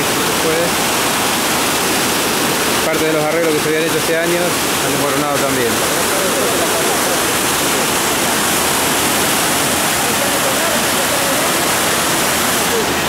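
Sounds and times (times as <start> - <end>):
flood water rushing: 0.0 - 13.0.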